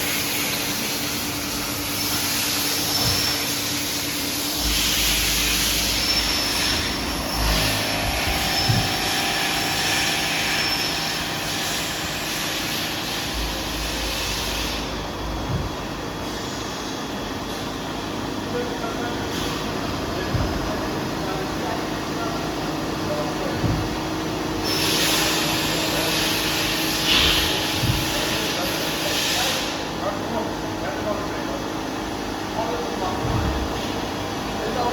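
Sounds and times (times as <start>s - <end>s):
machine hum with high hiss: 0.0s - 34.9s.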